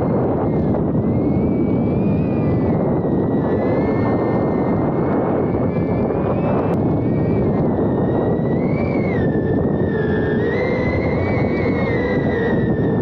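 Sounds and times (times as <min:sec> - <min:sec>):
drone motors whining: 0:00.0 - 0:13.0
wind rush on microphone: 0:00.0 - 0:13.0.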